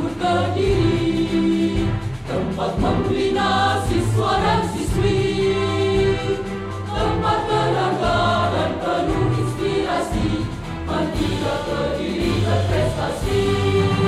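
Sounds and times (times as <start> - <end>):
choir singing a march: 0.0 - 14.0
instrumental backing music: 0.0 - 14.0.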